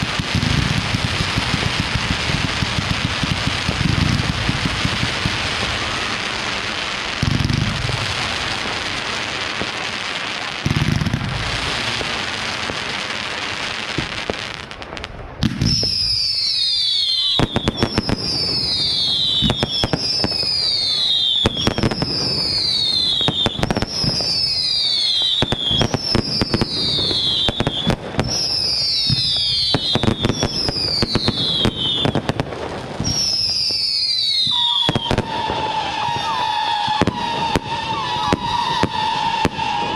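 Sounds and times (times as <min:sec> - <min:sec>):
deep fireworks booms: 0:00.0 - 0:39.9
fireworks crackling: 0:00.0 - 0:39.9
whistling firework shots: 0:00.0 - 0:39.9.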